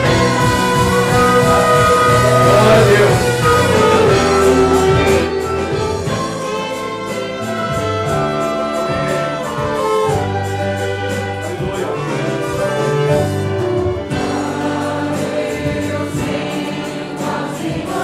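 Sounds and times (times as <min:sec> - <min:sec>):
congregation singing: 0:00.0 - 0:18.0
small orchestra playing held chords: 0:00.0 - 0:18.0.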